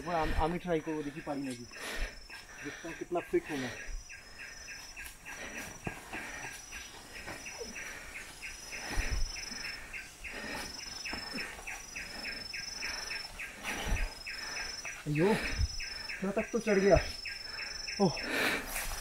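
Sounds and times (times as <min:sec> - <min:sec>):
insects pulsed chirping: 0:00.0 - 0:19.0.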